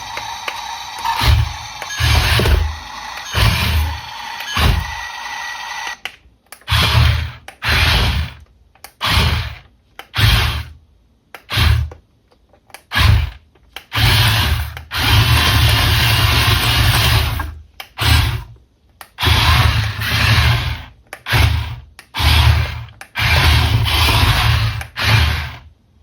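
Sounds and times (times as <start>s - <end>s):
toy car motor whirring: 0.0s - 6.0s, 6.6s - 10.7s, 11.4s - 12.0s, 12.7s - 18.5s, 19.1s - 25.7s.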